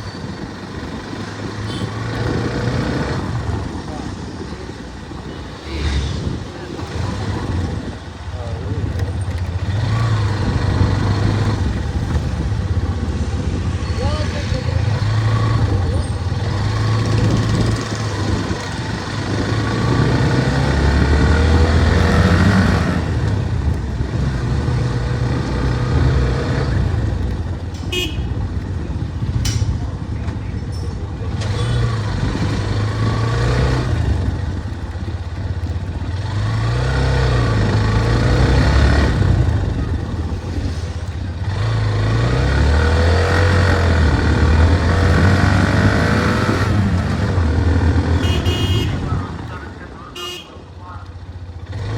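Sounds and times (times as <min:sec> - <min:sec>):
road noise: 0:00.0 - 0:51.9
motorcycle engine running: 0:06.5 - 0:51.9.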